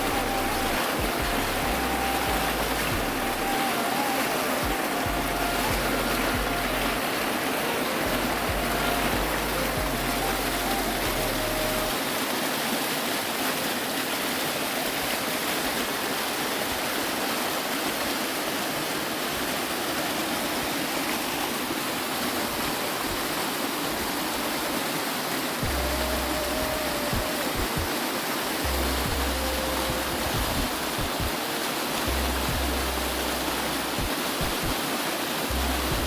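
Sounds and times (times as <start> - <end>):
waterfall pouring over rocks: 0.0 - 36.0.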